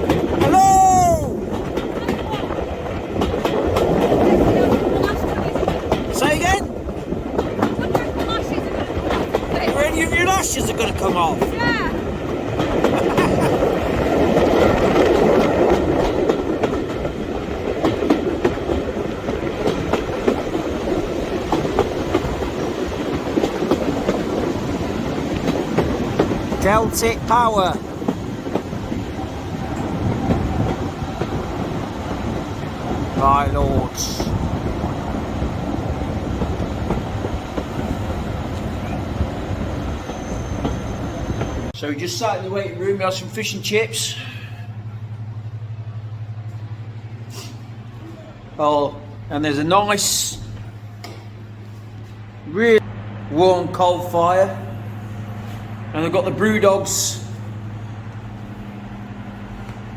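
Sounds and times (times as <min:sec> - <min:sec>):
train rumbling on track: 0:00.0 - 0:59.9
wheels clicking over rail joints: 0:00.0 - 0:59.9.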